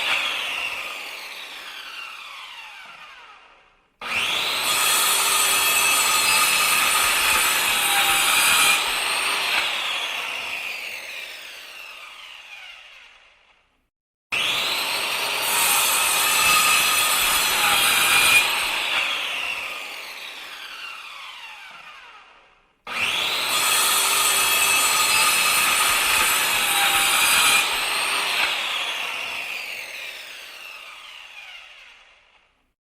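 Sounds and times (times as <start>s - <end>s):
angle grinder whining: 0.0s - 13.3s, 14.4s - 32.4s.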